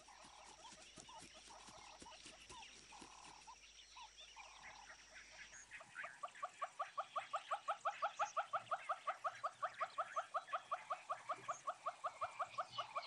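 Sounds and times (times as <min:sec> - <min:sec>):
soft animal calls: 0:00.0 - 0:13.0.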